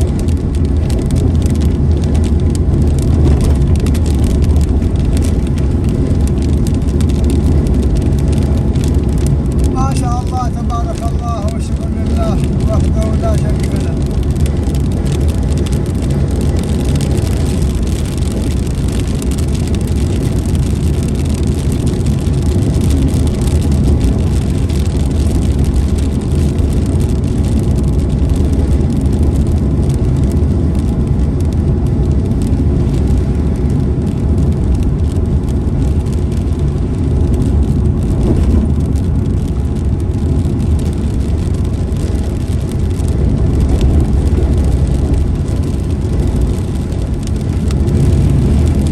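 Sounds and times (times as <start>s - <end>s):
car driving through rain: 0.0s - 48.9s.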